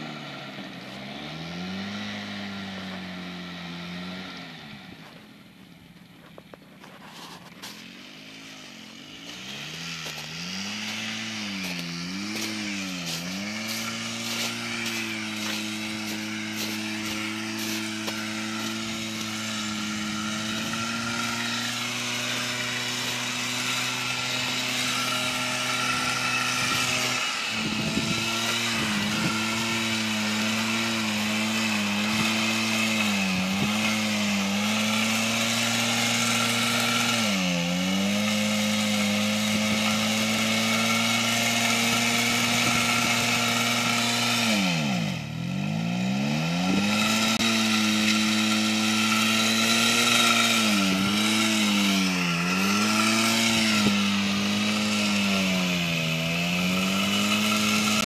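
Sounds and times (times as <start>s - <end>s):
motorcycle engine revving high: 0.0s - 58.0s.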